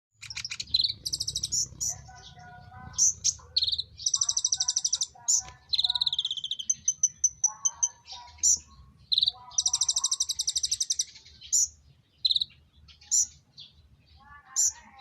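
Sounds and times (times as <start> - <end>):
sunbirds trilling: 0.1 - 15.0.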